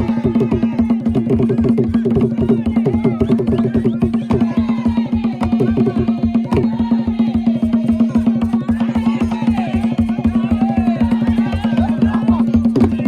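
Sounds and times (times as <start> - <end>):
fast hand-drum rhythm: 0.0 - 13.0
voices singing: 0.0 - 13.0.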